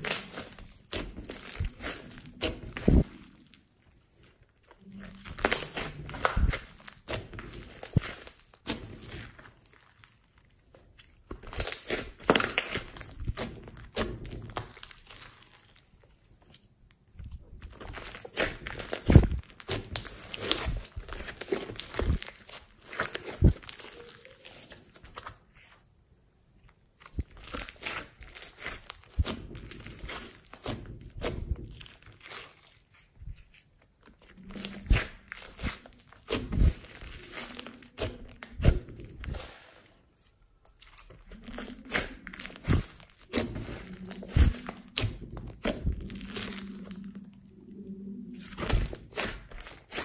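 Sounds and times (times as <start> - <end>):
slime crackling and squelching: 0.0 - 50.0.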